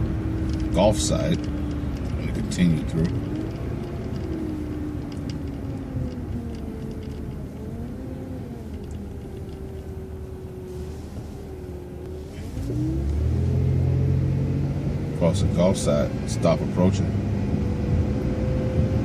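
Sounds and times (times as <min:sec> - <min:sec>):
bus engine rumble: 0:00.0 - 0:19.0
drivetrain whine: 0:00.0 - 0:19.0.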